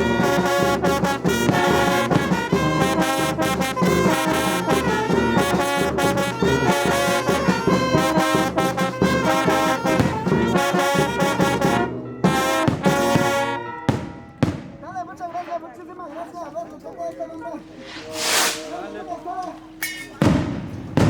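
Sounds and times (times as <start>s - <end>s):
brass band playing: 0.0s - 14.3s, 17.6s - 20.5s.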